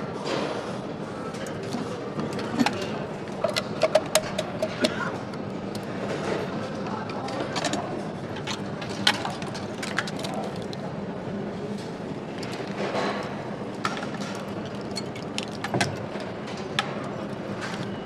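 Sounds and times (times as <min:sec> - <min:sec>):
steady machinery hum: 0:00.0 - 0:18.0.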